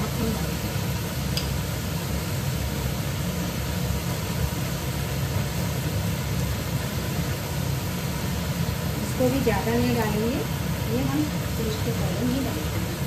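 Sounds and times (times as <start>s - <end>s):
gas stove burners rushing: 0.0s - 13.0s.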